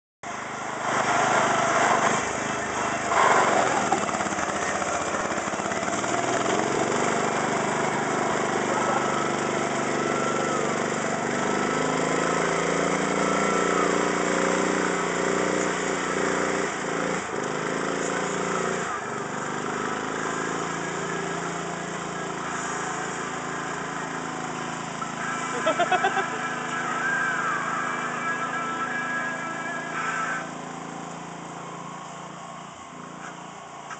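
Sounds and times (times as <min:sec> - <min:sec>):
garden tractor engine under load: 0:00.2 - 0:33.9.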